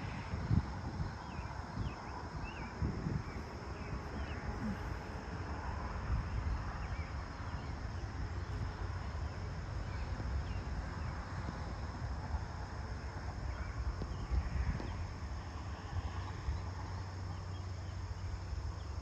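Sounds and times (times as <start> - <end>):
high-pitched insect chorus: 0.0 - 19.0
wind rumble on microphone: 0.0 - 19.0.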